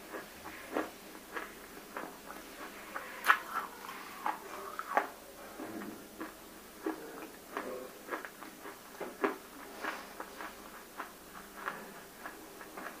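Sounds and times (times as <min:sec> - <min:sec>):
wet chewing crunches: 0:00.0 - 0:05.2, 0:06.2 - 0:13.0.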